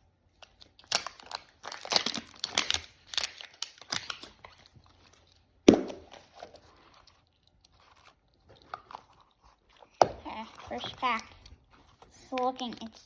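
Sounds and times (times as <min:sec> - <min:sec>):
plastic wrapping crinkling and tearing: 0:00.3 - 0:13.0.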